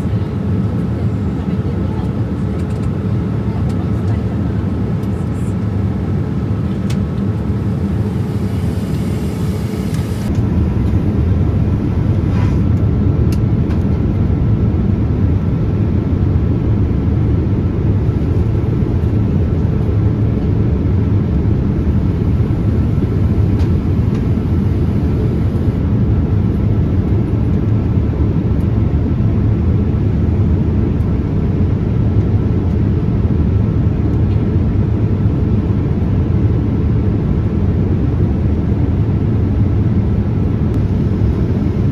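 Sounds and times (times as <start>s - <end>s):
airliner cabin engine rush: 0.0s - 41.9s.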